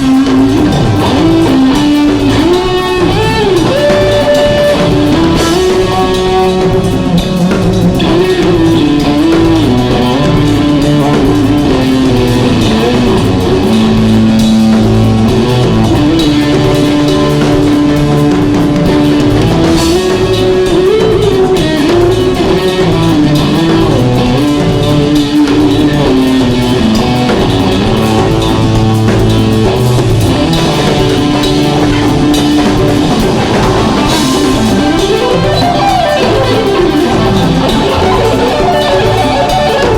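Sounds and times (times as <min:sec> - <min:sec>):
bass guitar: 0:00.0 - 0:39.9
drum kit: 0:00.0 - 0:39.9
lead guitar melody with bends: 0:00.0 - 0:39.9.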